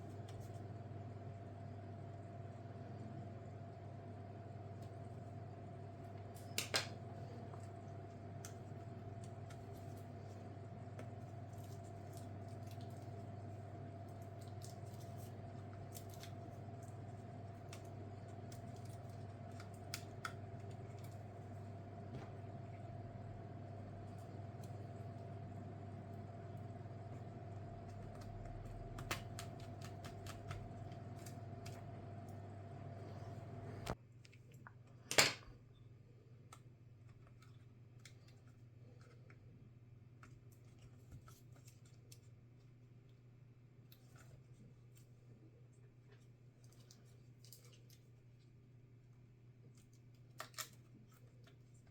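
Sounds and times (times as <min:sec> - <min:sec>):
steady background hum: 0:00.0 - 0:51.9.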